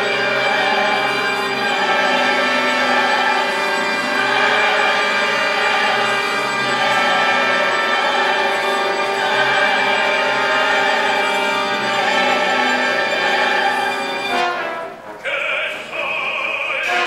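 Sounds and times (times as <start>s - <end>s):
opera orchestra with voices: 0.0s - 17.0s.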